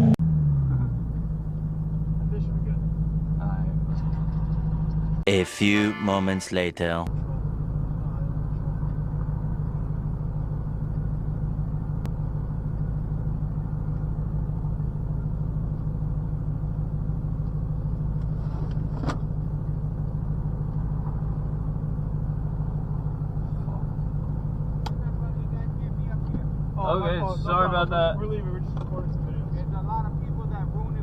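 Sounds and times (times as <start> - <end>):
car engine droning steadily: 0.0 - 31.0.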